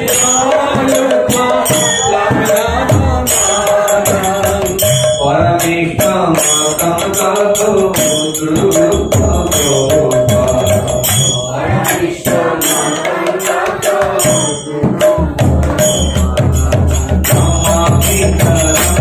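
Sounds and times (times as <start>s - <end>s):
metallic jingling percussion: 0.0s - 19.0s
steady drum beat: 0.0s - 19.0s
women singing devotional song: 0.0s - 19.0s.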